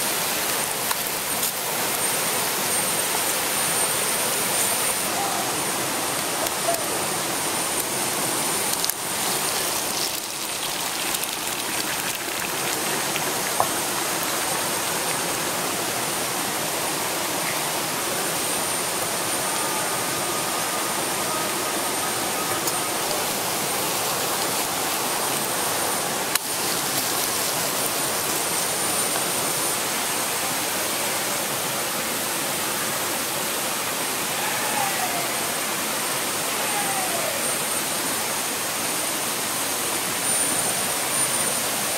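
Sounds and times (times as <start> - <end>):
high insect drone: 0.0 - 41.9
river water flowing: 0.0 - 41.9.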